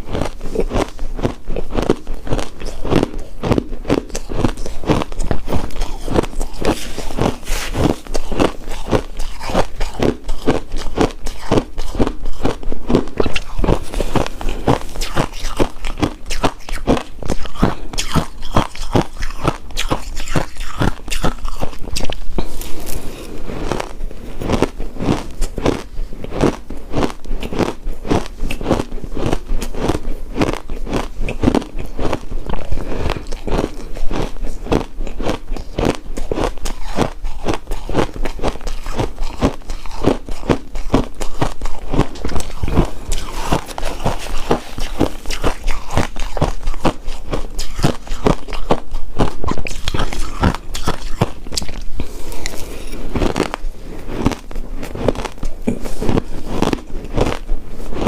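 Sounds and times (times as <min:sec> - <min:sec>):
chewing crunchy ice: 0:00.0 - 0:58.0.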